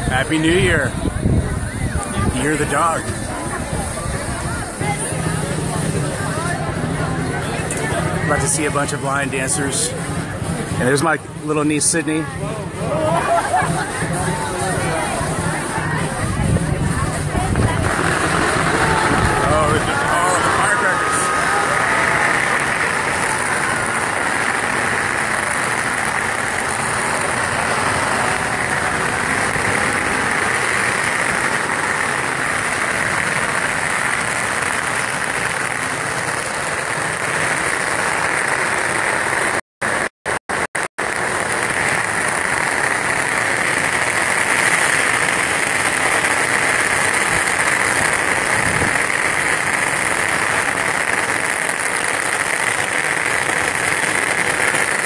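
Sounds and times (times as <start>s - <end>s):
firecrackers popping: 0.0s - 55.0s.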